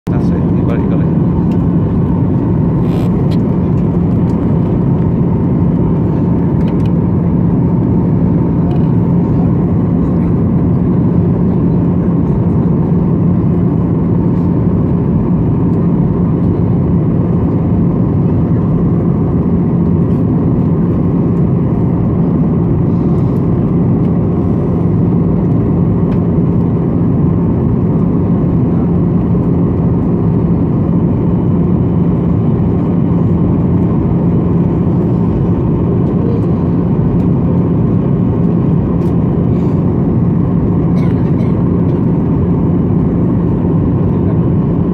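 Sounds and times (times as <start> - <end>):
jet engine drone: 0.1 - 44.9
steady low hum: 0.1 - 44.9.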